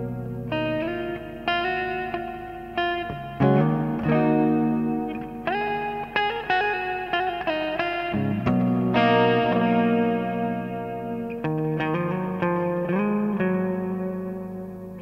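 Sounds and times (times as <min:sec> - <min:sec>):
electric guitar with reverb: 0:00.0 - 0:15.0.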